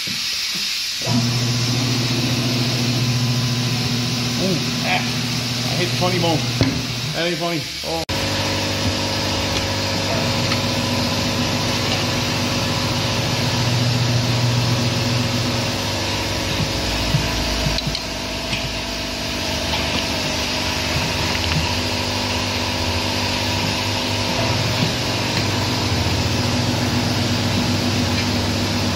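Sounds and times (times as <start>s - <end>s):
machine motor humming: 1.0s - 7.4s, 8.1s - 28.9s.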